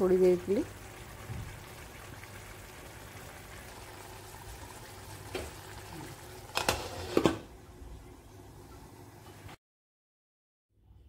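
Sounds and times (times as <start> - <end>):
pot simmering and bubbling: 0.0 - 9.6.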